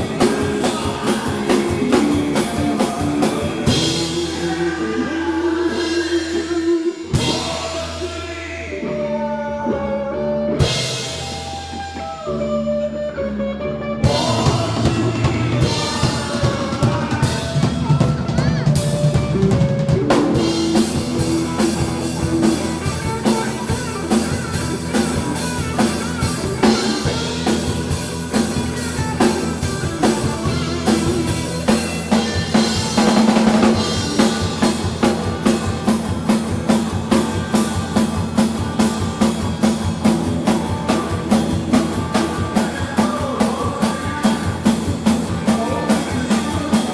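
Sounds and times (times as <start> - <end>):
rock band playing live: 0.0 - 46.9.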